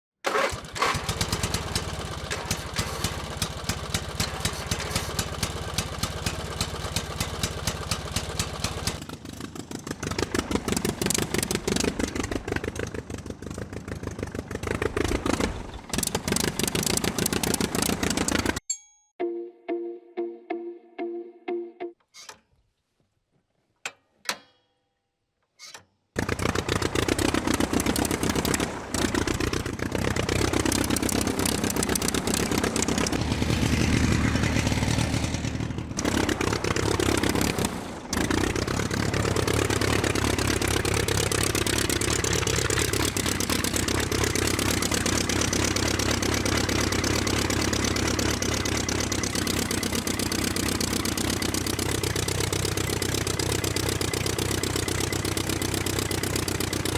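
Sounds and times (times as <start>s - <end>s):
small tractor engine running: 0.2s - 18.6s, 26.2s - 56.9s.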